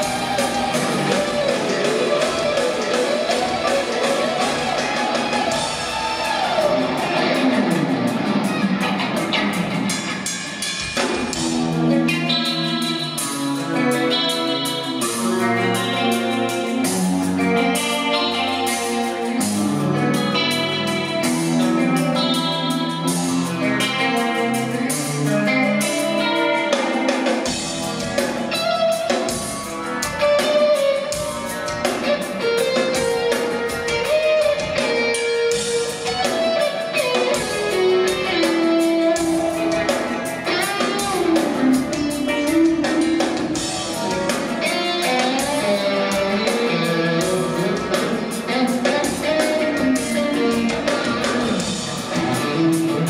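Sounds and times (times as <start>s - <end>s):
electric guitar rock instrumental: 0.0s - 53.0s.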